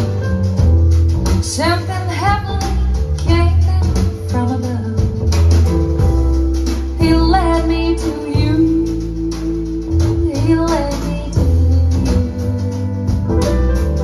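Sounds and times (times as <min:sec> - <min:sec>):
deep bass: 0:00.0 - 0:14.0
guitar: 0:00.0 - 0:14.0.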